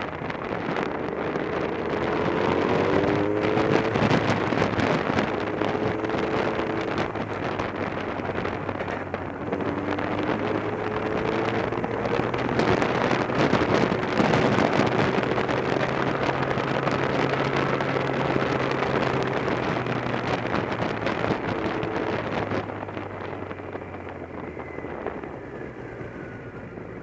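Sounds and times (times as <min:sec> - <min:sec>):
motorcycle engine running: 0:00.0 - 0:27.0
wind noise on microphone: 0:00.0 - 0:27.0.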